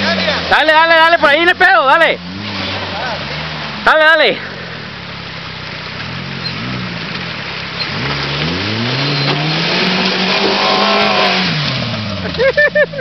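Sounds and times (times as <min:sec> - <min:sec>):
buggy engine revving: 0:00.0 - 0:13.0
water splashing from wheels: 0:00.0 - 0:13.0.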